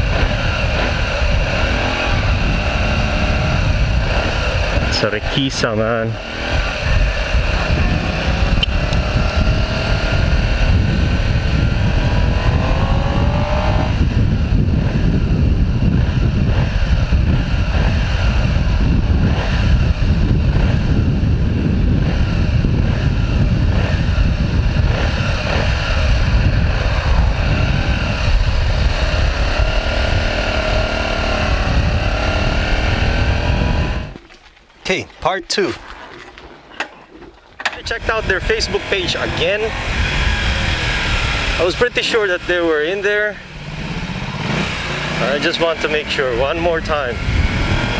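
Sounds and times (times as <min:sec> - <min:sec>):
wind rush on microphone: 0:00.0 - 0:34.3, 0:37.6 - 0:47.9
motorcycle engine accelerating: 0:00.0 - 0:34.4, 0:37.1 - 0:47.9.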